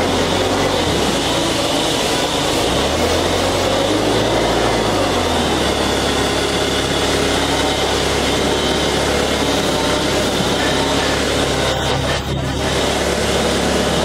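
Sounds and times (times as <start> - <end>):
woodworking machinery running: 0.0 - 14.0.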